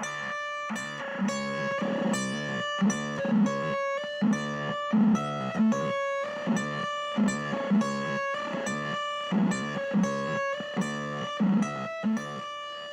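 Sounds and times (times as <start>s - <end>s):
electric guitar riff: 0.0s - 12.9s.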